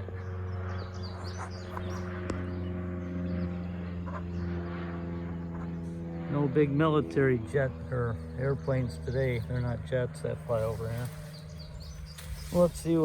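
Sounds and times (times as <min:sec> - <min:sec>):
birds chirping: 0:00.0 - 0:13.0
propeller airplane droning overhead: 0:00.0 - 0:13.0.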